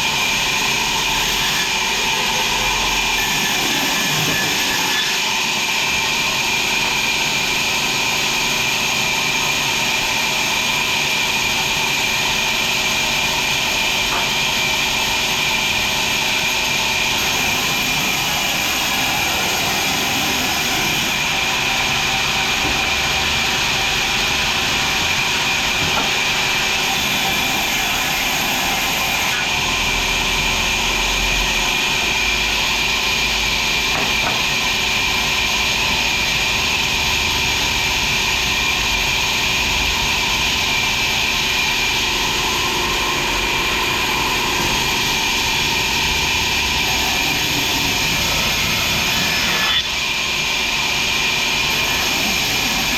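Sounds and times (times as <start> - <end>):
high machine whine: 0.0 - 52.9
sawmill machinery running: 0.0 - 52.9.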